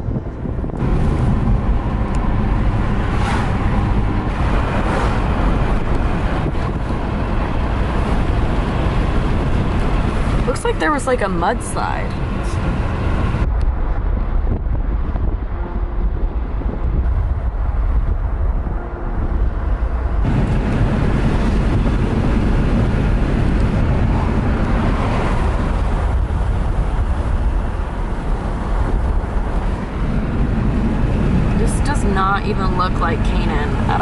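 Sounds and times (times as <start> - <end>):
car road and engine noise: 0.0 - 34.0
wind rumbling on microphone: 0.0 - 34.0.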